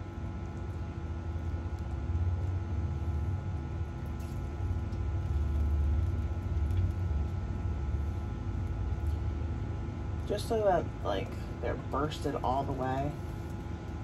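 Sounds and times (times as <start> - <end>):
kitchen appliance humming: 0.0 - 14.0.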